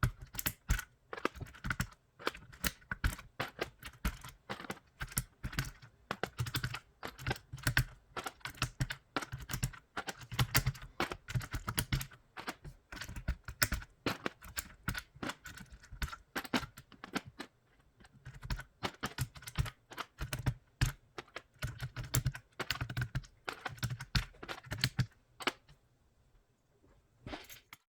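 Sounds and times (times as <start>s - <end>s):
mechanical keyboard typing: 0.0s - 17.5s, 18.1s - 25.6s.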